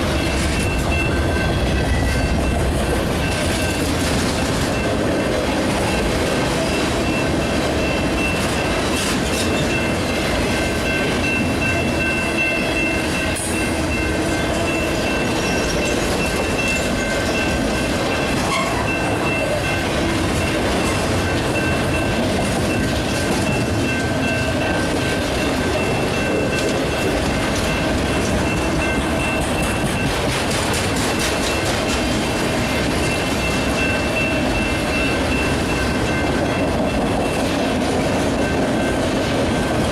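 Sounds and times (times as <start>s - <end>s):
freight train rolling past: 0.0s - 39.9s
wheels clattering over rail joints: 0.0s - 39.9s.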